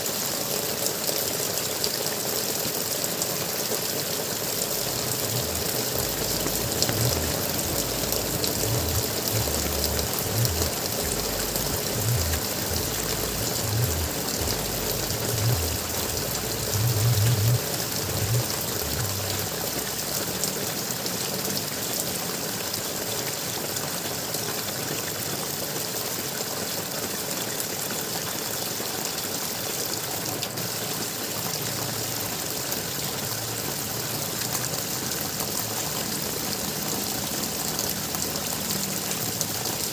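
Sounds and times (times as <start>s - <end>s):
water gurgling: 0.0s - 39.9s.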